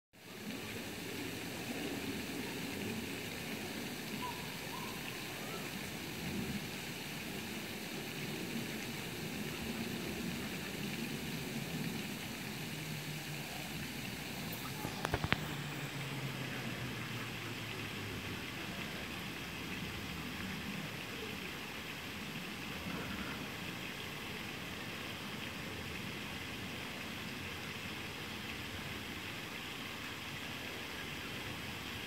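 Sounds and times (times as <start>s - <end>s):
rushing outdoor background noise: 0.2s - 32.0s.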